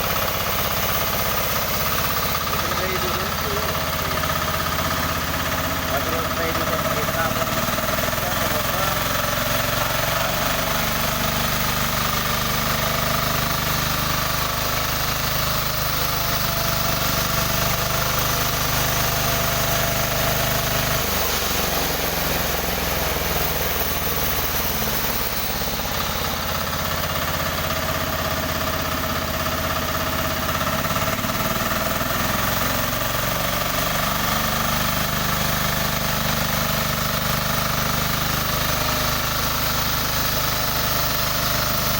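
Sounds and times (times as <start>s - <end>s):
sawmill machine droning: 0.0s - 41.9s.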